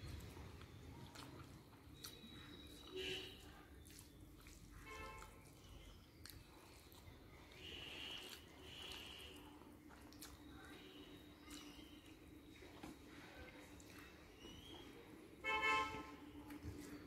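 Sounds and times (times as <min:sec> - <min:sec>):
fingers squishing rice: 0:00.0 - 0:15.1
soft chewing: 0:00.0 - 0:15.4, 0:16.2 - 0:17.0.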